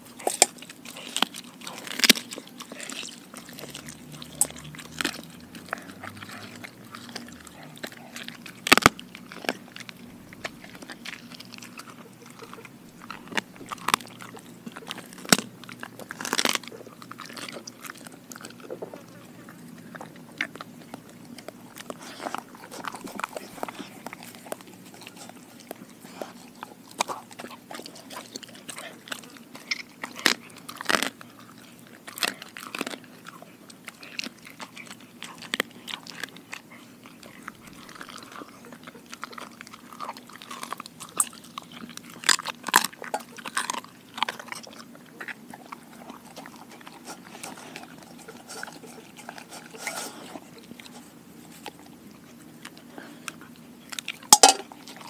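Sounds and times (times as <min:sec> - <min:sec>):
dog chewing and crunching food: 0:00.0 - 0:55.0.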